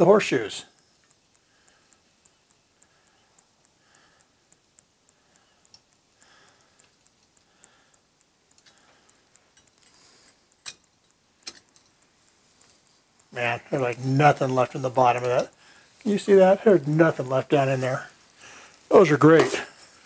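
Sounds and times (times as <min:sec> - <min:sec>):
faint regular ticking: 0:00.0 - 0:20.0
sharp metallic clicks: 0:00.0 - 0:20.0.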